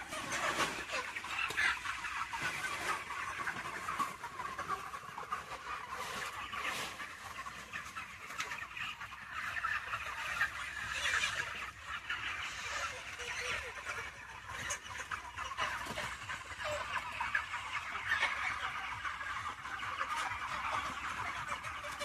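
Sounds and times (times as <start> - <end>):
flock of chickens calling: 0.0 - 22.0.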